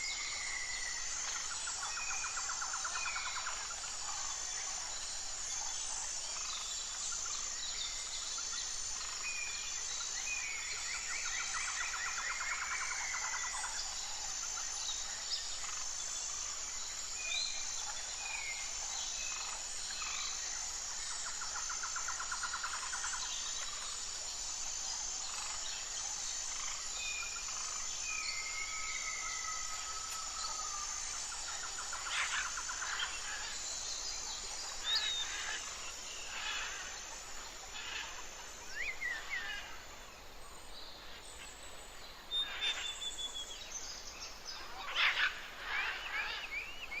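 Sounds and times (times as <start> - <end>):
high background hiss: 0.0 - 47.0
wild birds calling and singing: 0.0 - 47.0.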